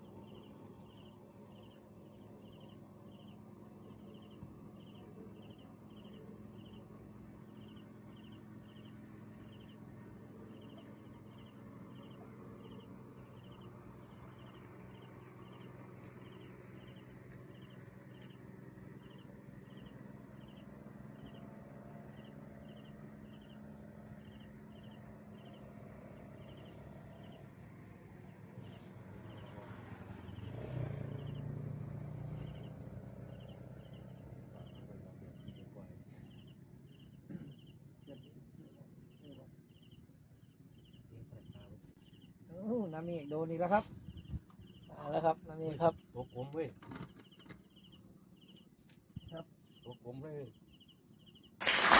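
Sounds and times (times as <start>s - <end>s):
insect chirping: 0.0s - 28.3s, 30.3s - 35.6s, 36.3s - 43.4s, 44.2s - 45.0s, 47.2s - 51.9s.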